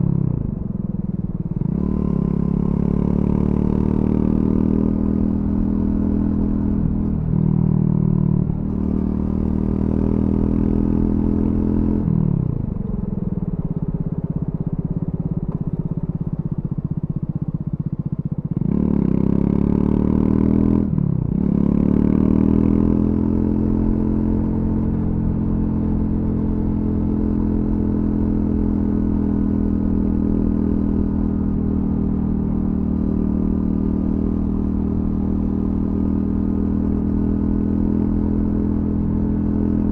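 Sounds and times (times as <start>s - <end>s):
motorcycle engine revving: 1.4s - 39.9s.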